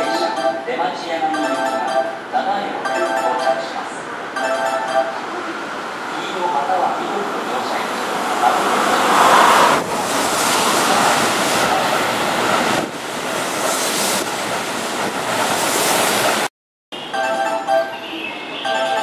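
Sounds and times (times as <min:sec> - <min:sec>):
train rushing past: 0:00.0 - 0:16.5.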